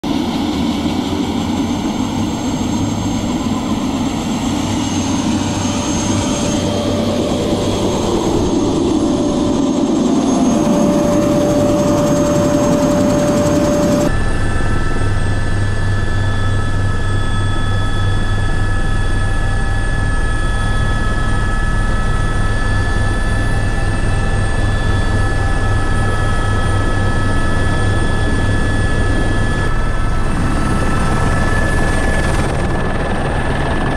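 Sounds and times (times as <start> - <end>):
helicopter turbine whine: 0.0 - 33.9
helicopter rotor beat: 0.1 - 33.9.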